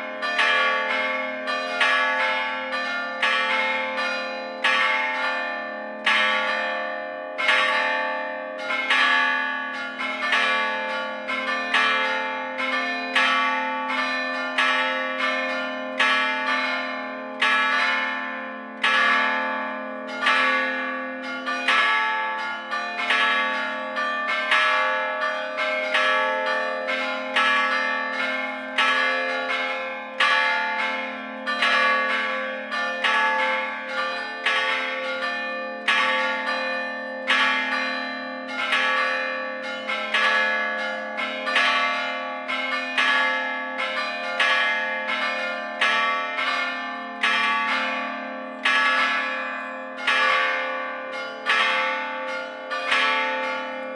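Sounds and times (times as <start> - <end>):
church bells struck by hammers: 0.0 - 53.9.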